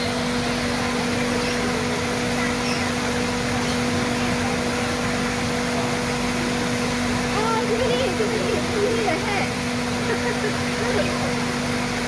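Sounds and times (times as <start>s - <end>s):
constant low hum: 0.0s - 12.0s
waterfalls pouring over rocks: 0.0s - 12.0s.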